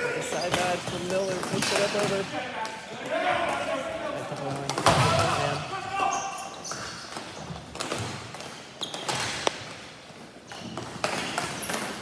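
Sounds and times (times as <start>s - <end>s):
hockey sticks and ball clacking: 0.1s - 12.0s.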